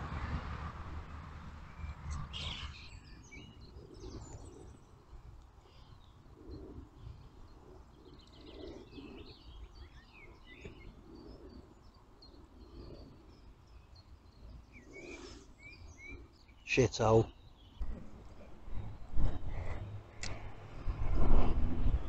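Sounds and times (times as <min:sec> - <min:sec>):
small birds chirping: 0:01.7 - 0:20.5.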